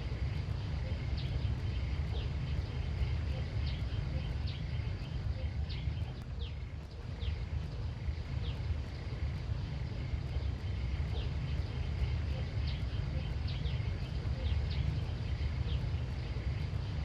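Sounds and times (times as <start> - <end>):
faint high hum: 0.0 - 17.0
low rumble: 0.0 - 17.0.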